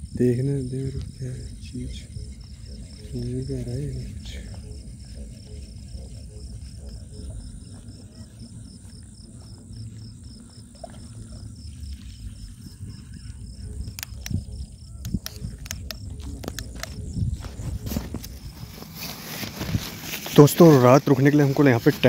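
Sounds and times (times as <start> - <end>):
low rumble: 0.0 - 20.3
insect chirping: 0.0 - 22.0.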